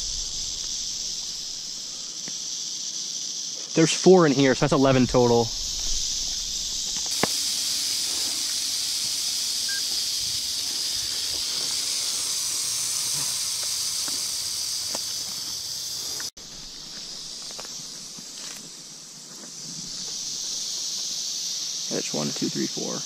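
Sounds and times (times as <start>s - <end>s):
rattlesnake rattling: 0.0s - 23.0s.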